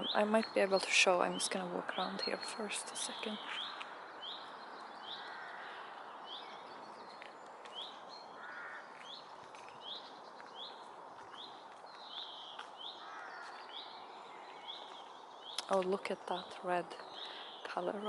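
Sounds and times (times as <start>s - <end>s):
soft bird chirps: 0.0s - 18.0s
steady outdoor hiss: 0.0s - 18.0s.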